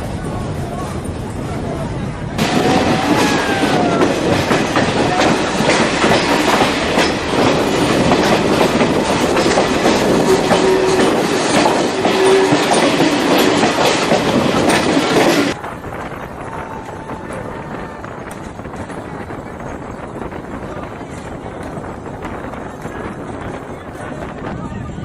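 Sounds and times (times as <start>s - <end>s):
train wheels clattering over rails: 2.4s - 24.5s.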